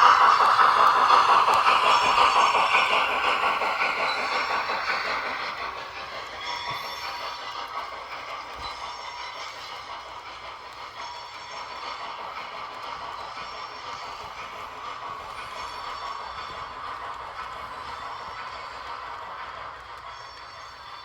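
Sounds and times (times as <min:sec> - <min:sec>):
model train wheels rolling: 0:00.0 - 0:21.0.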